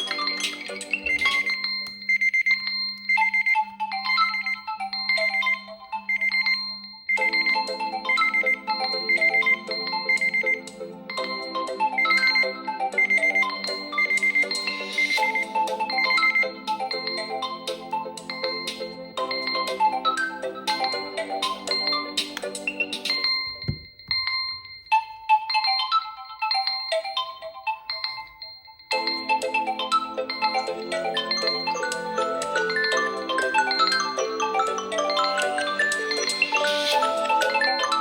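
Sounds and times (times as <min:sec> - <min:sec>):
phone alarm melody: 0:00.0 - 0:38.0.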